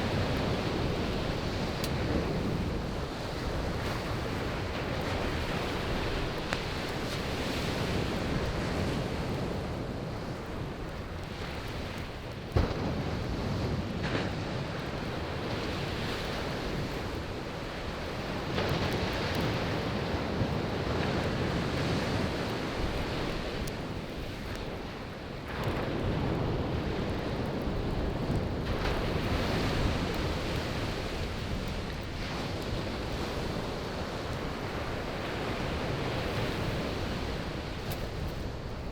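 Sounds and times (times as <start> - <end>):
campfire crackling: 0.0 - 38.9
sea waves breaking on shore: 0.0 - 38.9.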